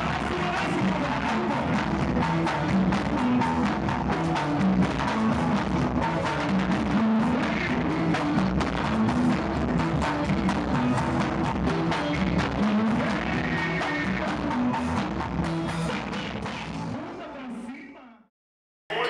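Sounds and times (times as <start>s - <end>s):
bass line: 0.0s - 17.0s
guitar: 0.0s - 17.0s
drums and percussion: 0.0s - 17.1s.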